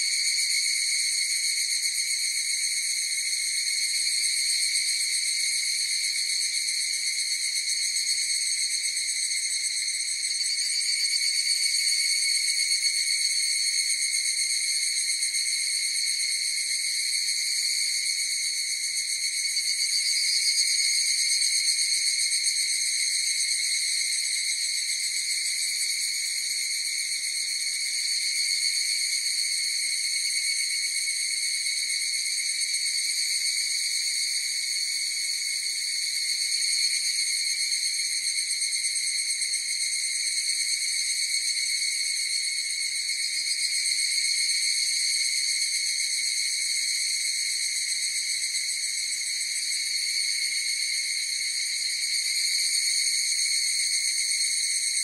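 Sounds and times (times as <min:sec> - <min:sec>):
cicadas chorus ringing: 0:00.0 - 0:55.0.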